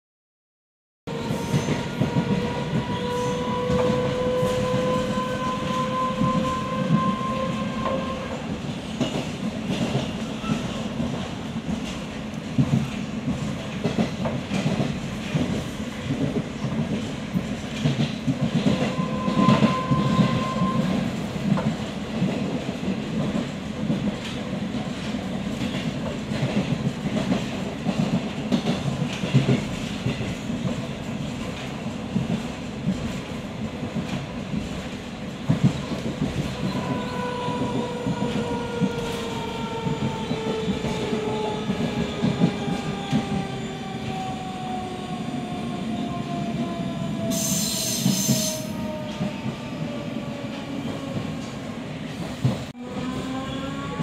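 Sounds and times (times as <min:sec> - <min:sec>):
train rumbling on track: 0:01.1 - 0:54.0.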